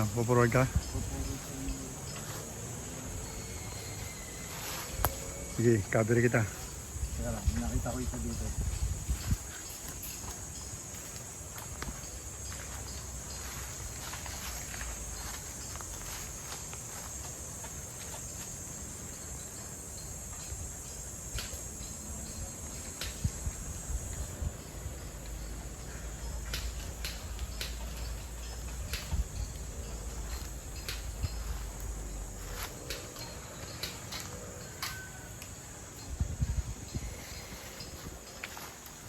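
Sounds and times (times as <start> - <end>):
high-pitched insect trill: 0.0 - 39.0.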